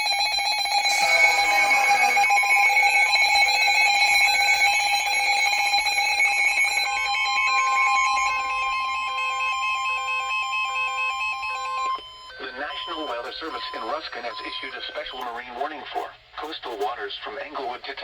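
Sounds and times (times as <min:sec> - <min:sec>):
electronic alarm tones: 0:00.0 - 0:15.4
steady high tone: 0:00.0 - 0:15.4.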